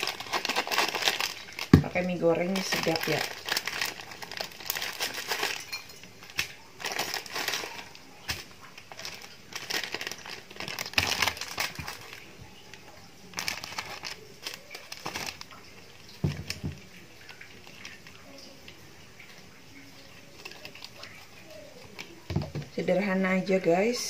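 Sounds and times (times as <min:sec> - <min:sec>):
plastic packets crinkling: 0:00.0 - 0:22.8.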